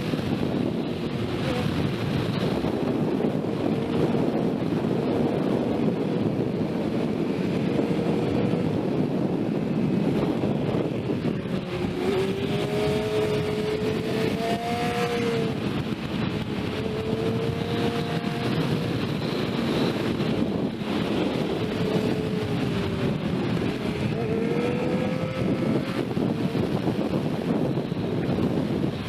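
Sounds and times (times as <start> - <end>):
motorcycle engine accelerating: 0.0 - 29.0
wind noise on microphone: 0.0 - 29.0.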